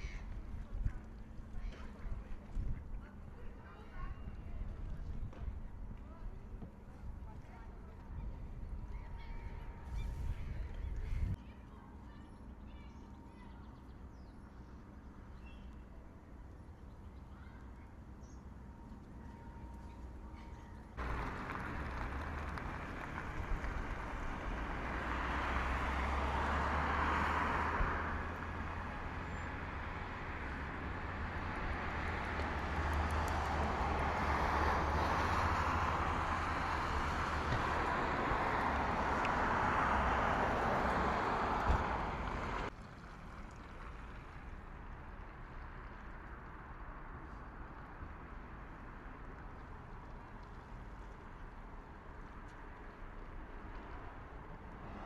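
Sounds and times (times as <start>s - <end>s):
outdoor background noise: 0.0s - 55.0s.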